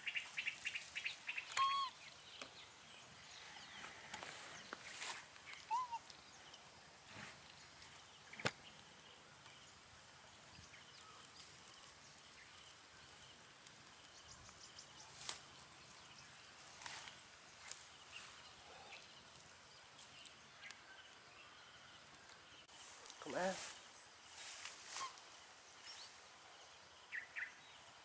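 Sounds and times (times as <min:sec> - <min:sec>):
faint rustling in grass: 0:00.0 - 0:21.4, 0:22.0 - 0:27.5.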